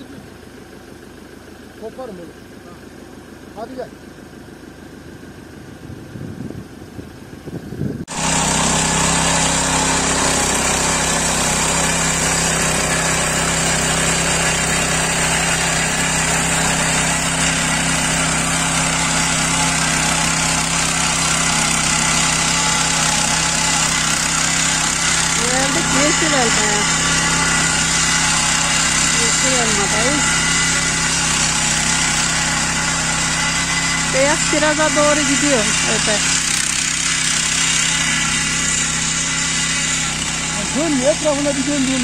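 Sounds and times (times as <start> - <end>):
rotary tiller running: 7.2 - 42.0.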